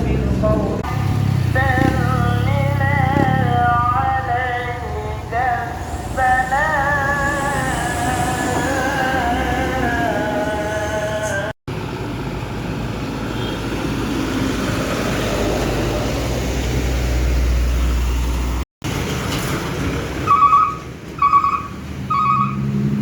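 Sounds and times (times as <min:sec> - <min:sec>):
engine rumbling quietly: 0:00.0 - 0:23.0
heavy truck engine rumbling: 0:00.0 - 0:23.0.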